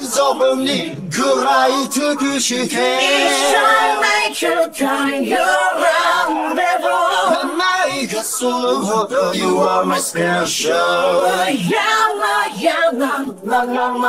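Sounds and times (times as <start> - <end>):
layered voices singing a cappella: 0.0 - 14.0.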